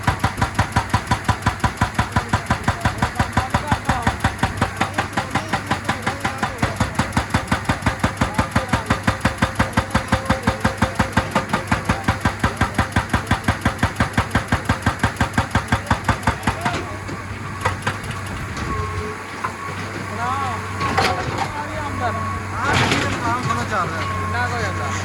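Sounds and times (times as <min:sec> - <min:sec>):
excavator diesel engine running: 0:00.0 - 0:25.0
hydraulic breaker hammering rock: 0:00.0 - 0:25.0.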